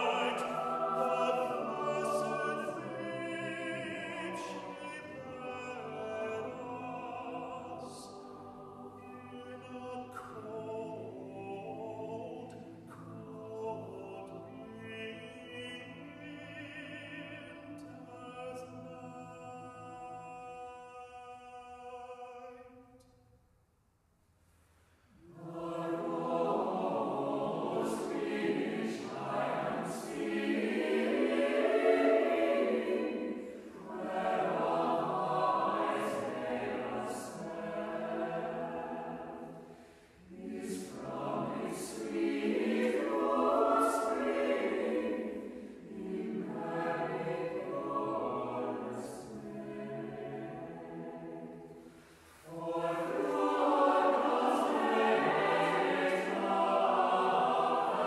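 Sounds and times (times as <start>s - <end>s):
mixed choir singing: 0.0s - 19.0s, 25.2s - 58.0s.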